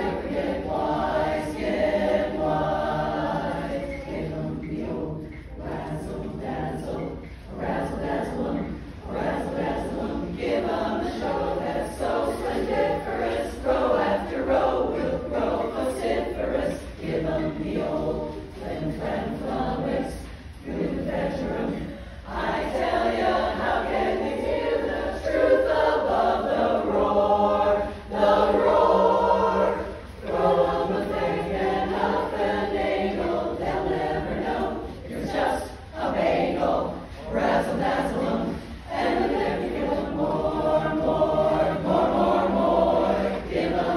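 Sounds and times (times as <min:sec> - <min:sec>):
women's chorus singing: 0:00.0 - 0:43.9.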